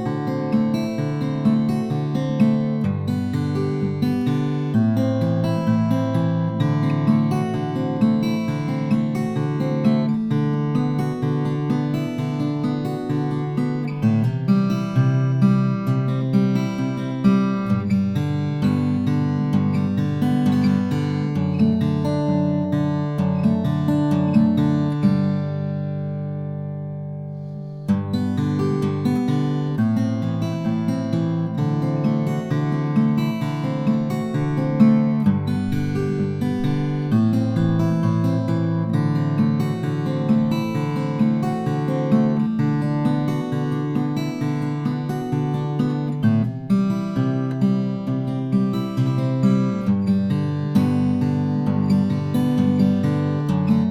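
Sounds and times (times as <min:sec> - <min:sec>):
fingerpicked acoustic guitar: 0:00.0 - 0:53.9.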